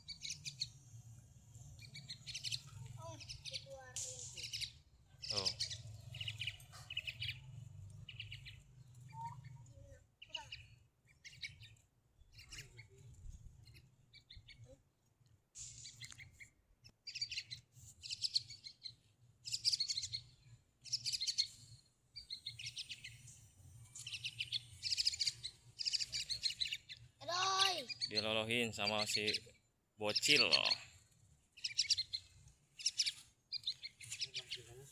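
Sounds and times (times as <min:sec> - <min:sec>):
pet bird chirping: 0:00.0 - 0:01.0, 0:01.6 - 0:14.8, 0:15.6 - 0:34.9.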